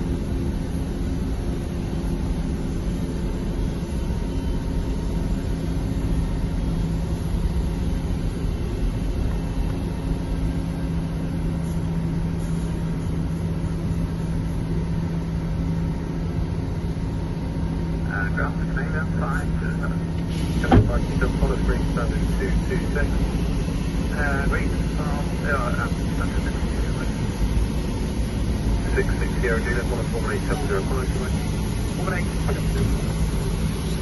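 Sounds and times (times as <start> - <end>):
jet airliner engine drone: 0.0 - 34.0.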